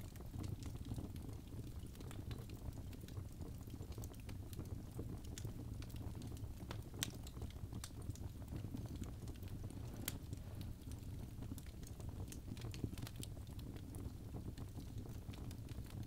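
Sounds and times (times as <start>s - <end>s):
fire crackles and pops: 0.0s - 16.0s
rumble of flames: 0.0s - 16.0s.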